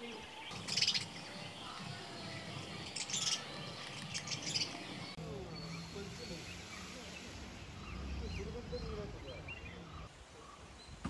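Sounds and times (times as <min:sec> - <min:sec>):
birds chirping: 0:00.0 - 0:11.0
faint steady background noise: 0:00.0 - 0:11.0.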